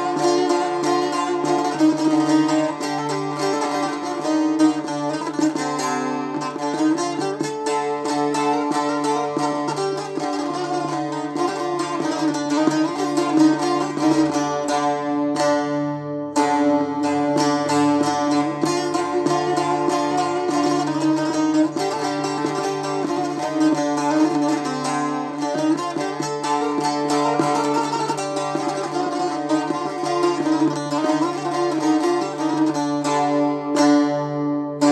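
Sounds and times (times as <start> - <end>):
long-necked lute folk melody: 0.0 - 34.9.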